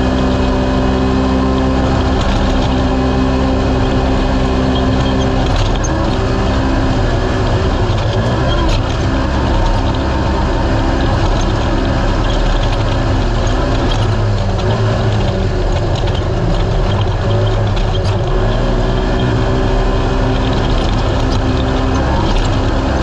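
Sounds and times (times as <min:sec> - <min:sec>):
engine running hard: 0:00.0 - 0:23.0
rush of wind and chassis noise: 0:00.0 - 0:23.0
clicks and rattles: 0:01.4 - 0:23.0.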